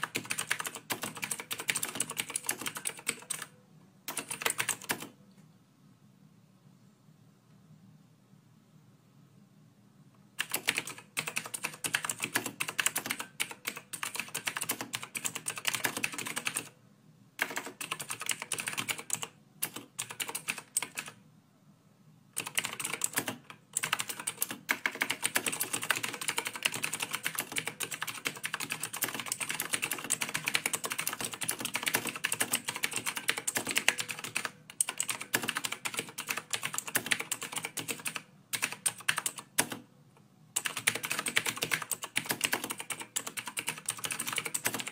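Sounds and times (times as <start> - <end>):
rapid keyboard typing clicks: 0.0 - 3.5, 4.1 - 5.2, 10.4 - 16.8, 17.4 - 21.2, 22.4 - 39.9, 40.6 - 44.9.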